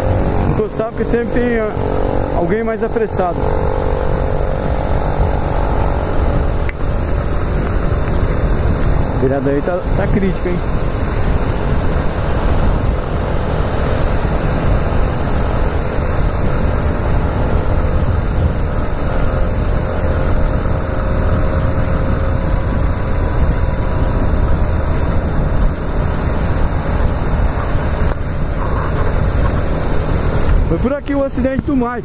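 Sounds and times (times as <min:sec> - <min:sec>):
motorcycle engine running: 0:00.0 - 0:32.0
wind rush on microphone: 0:00.0 - 0:32.0.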